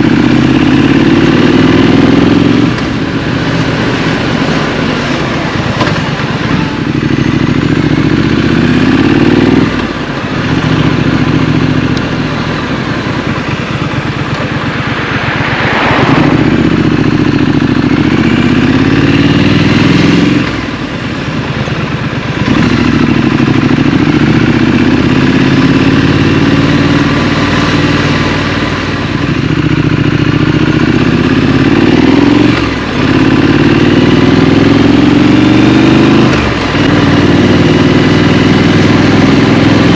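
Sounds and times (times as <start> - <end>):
motorcycle engine shifting gears: 0.0 - 39.9
road and wind noise: 0.0 - 39.9.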